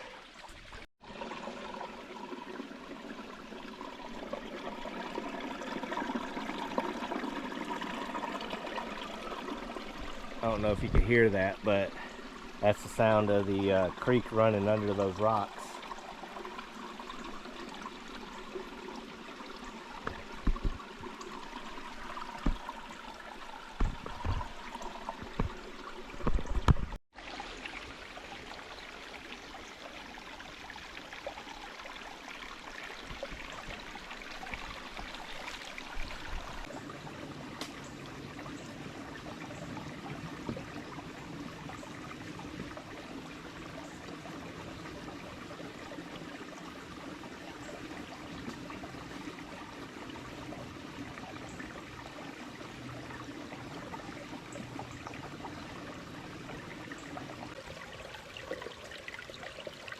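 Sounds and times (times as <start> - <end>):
creek running over rocks: 0.0 - 59.9.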